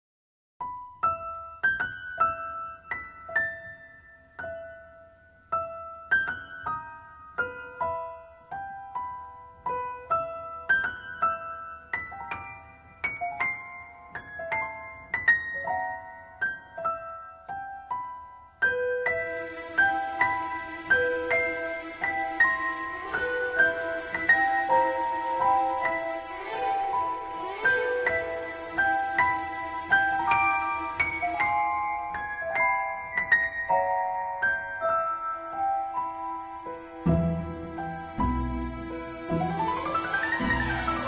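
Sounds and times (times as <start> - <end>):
slow piano melody: 0.6 - 41.0.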